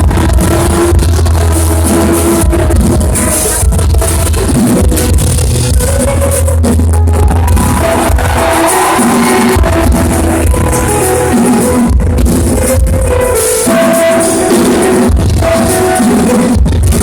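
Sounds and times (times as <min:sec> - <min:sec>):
distorted live band playing: 0:00.0 - 0:17.0.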